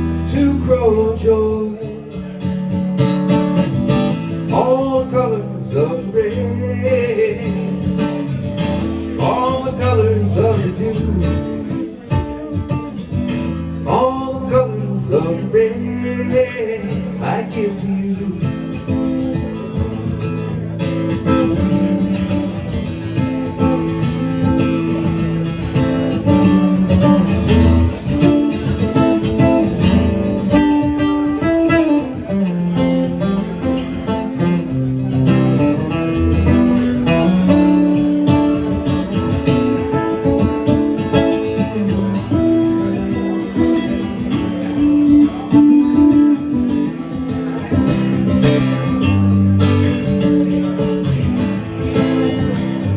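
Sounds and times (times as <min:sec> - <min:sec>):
guitar strummed and picked: 0:00.0 - 0:52.9.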